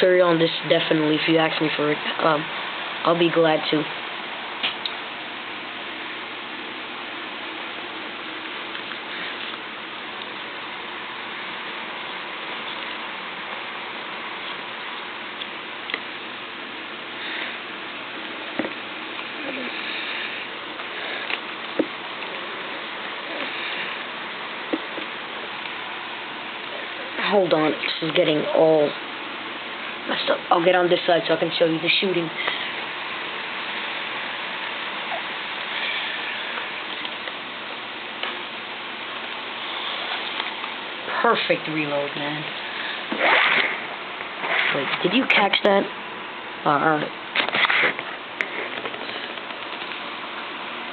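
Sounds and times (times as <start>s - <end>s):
steady hiss: 0.0s - 50.9s.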